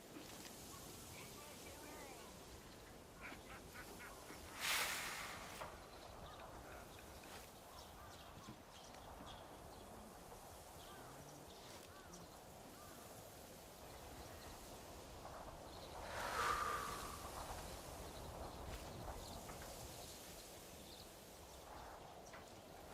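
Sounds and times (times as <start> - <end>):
faint hiss: 0.0 - 22.9.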